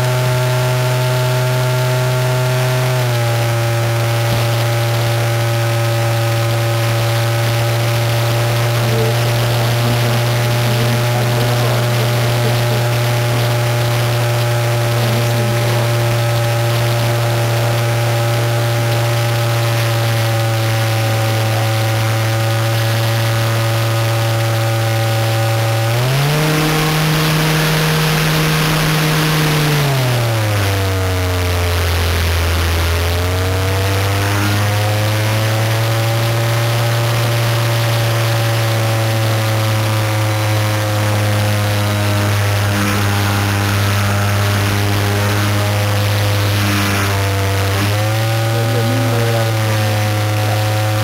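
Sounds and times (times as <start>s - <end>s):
model plane motor droning: 0.0s - 51.0s.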